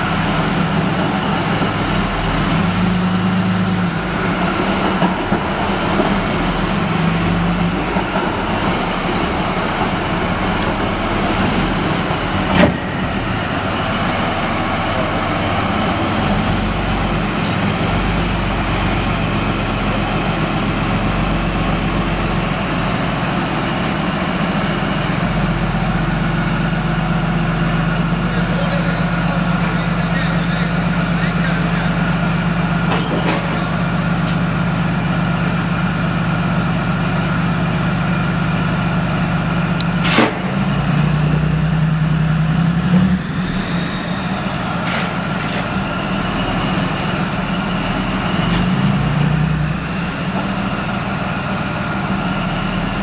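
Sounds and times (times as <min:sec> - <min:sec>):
tank diesel engine running: 0:00.0 - 0:53.0.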